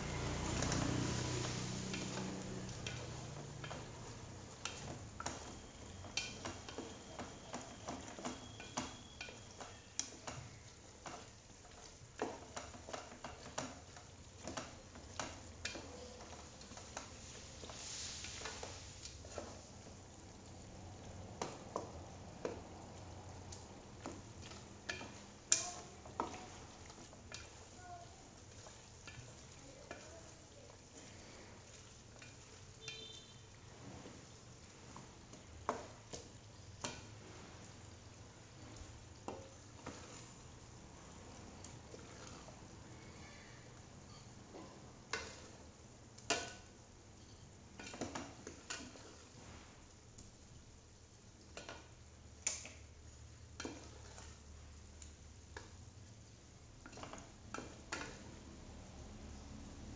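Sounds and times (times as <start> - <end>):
paste sizzling: 0.0 - 59.9.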